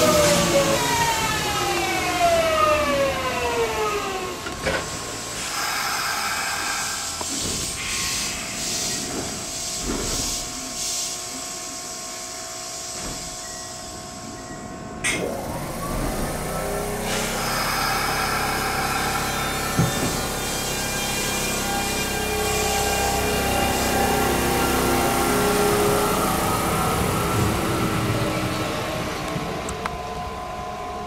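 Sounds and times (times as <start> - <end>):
train motors whining down: 0.0 - 31.0.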